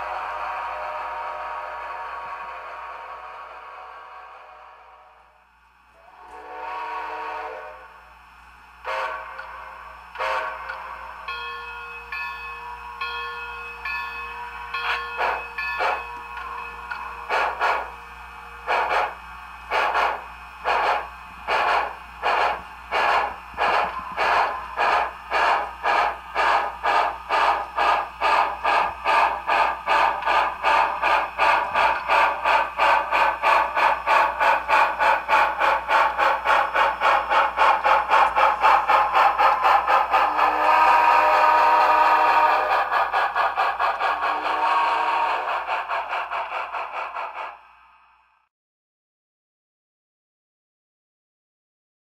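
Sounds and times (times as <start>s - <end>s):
model train steam chuffs: 0.0s - 48.5s.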